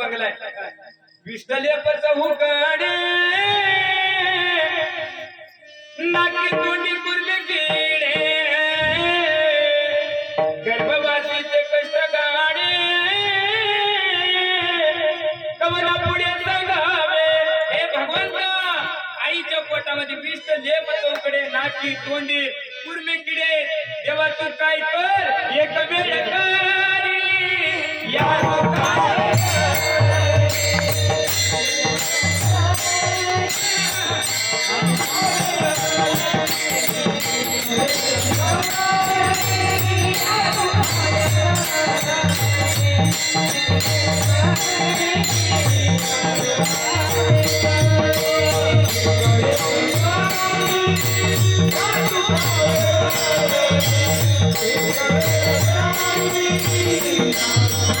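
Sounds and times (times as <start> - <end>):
jingling rattling percussion: 0.0 - 14.6, 15.4 - 23.0, 27.5 - 58.0.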